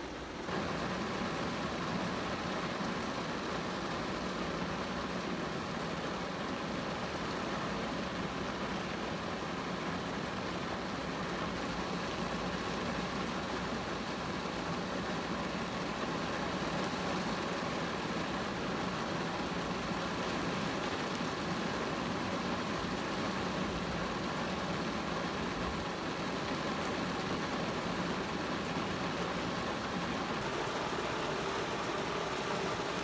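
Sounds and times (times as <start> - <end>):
rain falling on a car: 0.0 - 33.0.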